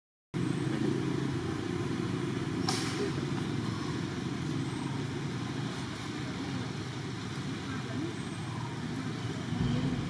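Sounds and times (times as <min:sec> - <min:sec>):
low engine rumble: 0:00.4 - 0:10.0.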